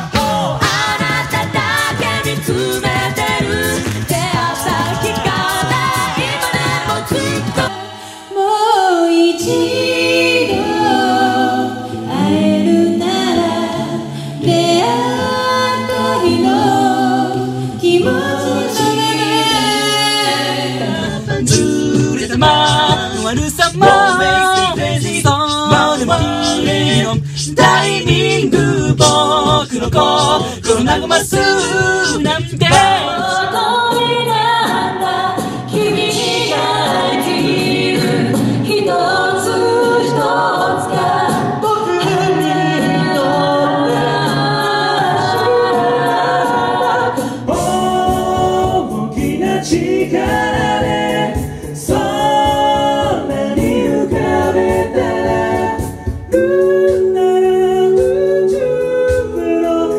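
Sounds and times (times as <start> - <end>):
beatboxing: 0.0 - 7.7, 18.9 - 43.6, 44.2 - 59.9
a cappella harmony singing: 0.0 - 59.9.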